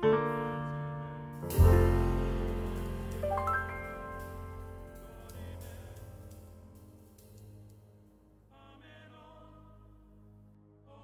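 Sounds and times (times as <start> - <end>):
quiet instrumental music: 0.0 - 11.0.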